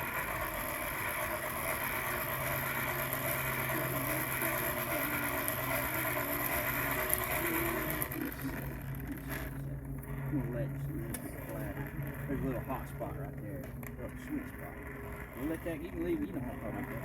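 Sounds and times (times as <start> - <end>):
hand-cranked forge blower whirring: 0.0 - 17.0
low steady hum: 0.0 - 17.0.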